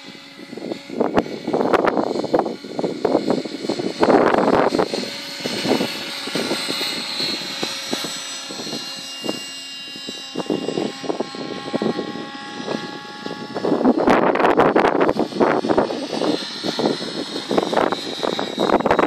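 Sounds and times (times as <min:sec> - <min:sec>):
model helicopter motor whine: 0:00.0 - 0:19.0.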